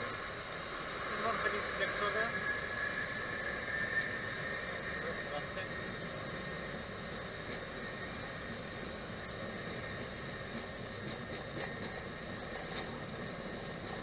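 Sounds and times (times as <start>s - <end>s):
faint high whine: 0.0s - 14.0s
jet engines idling: 0.0s - 14.0s.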